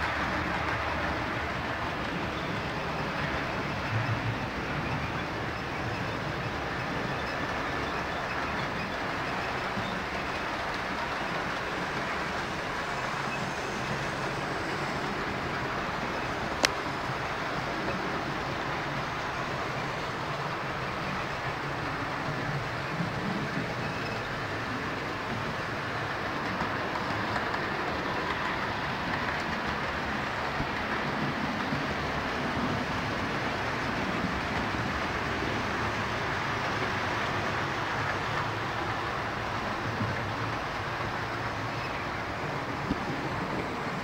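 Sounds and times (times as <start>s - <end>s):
model trains running on track: 0.0s - 44.0s.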